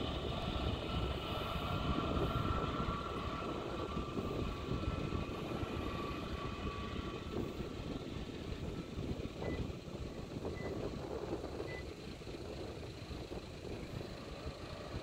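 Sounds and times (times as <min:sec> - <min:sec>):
distant jet airliner rumble: 0:00.0 - 0:15.0
wind noise on microphone: 0:00.0 - 0:15.0.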